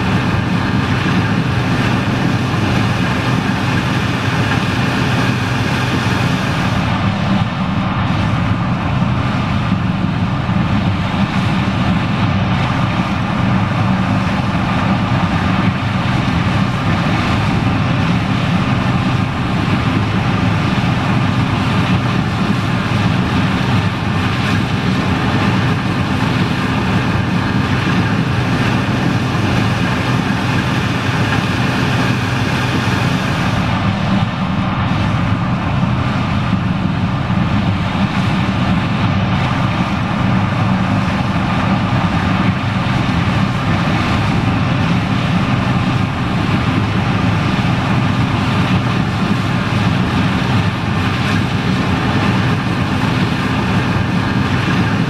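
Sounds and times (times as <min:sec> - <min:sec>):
combine harvester drone: 0:00.0 - 0:55.0
tractor running: 0:00.0 - 0:55.0.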